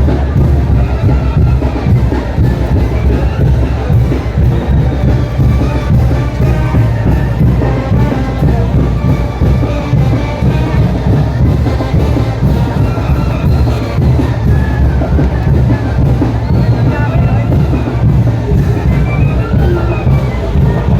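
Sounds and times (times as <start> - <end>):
brass band playing: 0.0 - 20.9.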